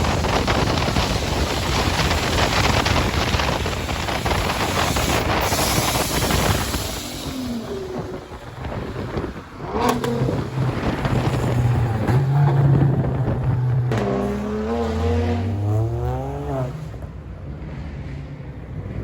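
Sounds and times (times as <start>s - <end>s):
car engine accelerating: 0.0s - 18.2s.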